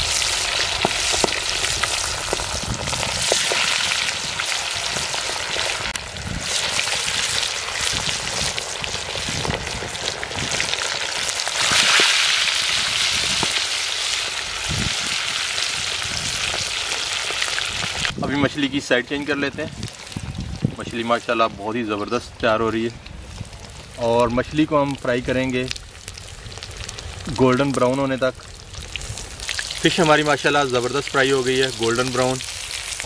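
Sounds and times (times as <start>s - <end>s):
fish deep-frying in oil: 0.0s - 22.0s, 23.2s - 33.0s.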